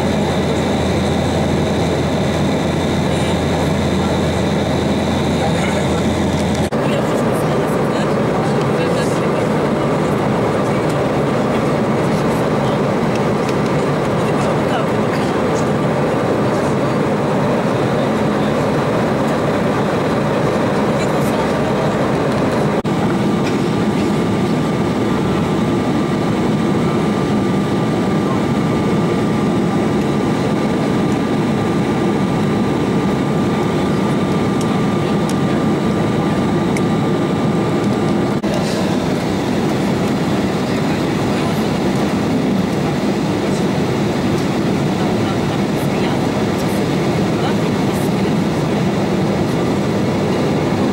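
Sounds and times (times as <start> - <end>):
airliner cabin engine noise: 0.0 - 50.9.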